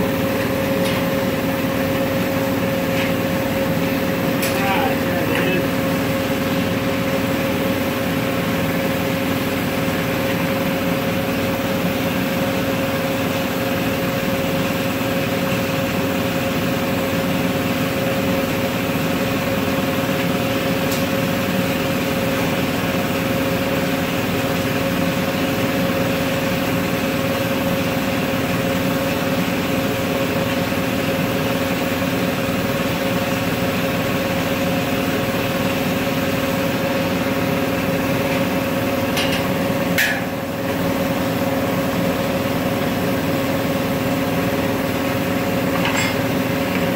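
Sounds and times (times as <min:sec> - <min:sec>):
gas burners and blowers roaring: 0:00.0 - 0:46.9.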